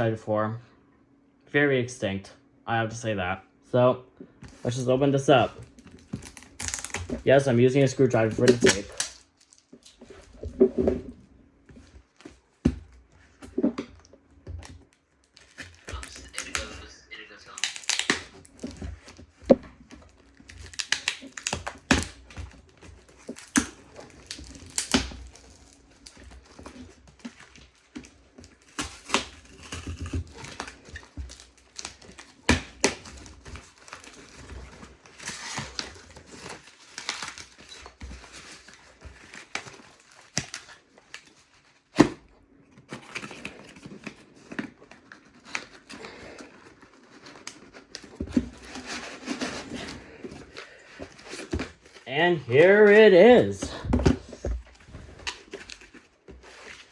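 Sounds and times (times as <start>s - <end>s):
tape tearing: 4.5s - 10.4s, 15.2s - 42.2s, 42.8s - 56.9s
paper or plastic crinkling: 4.5s - 11.2s, 14.8s - 56.9s.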